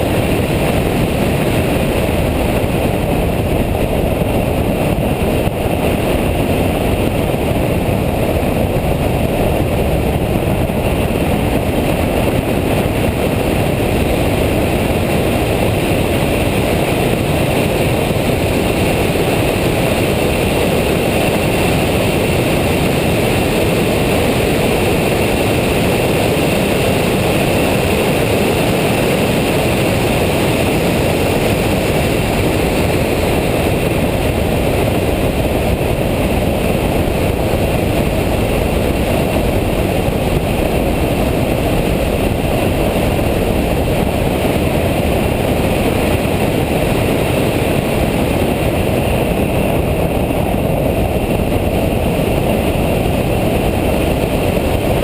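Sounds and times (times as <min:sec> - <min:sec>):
car engine at speed: 0:00.0 - 0:55.0
wind noise: 0:00.0 - 0:55.0.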